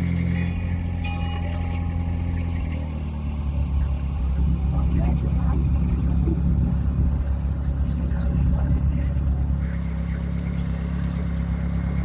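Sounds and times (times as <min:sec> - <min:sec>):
motor boat engine humming: 0:00.0 - 0:12.0.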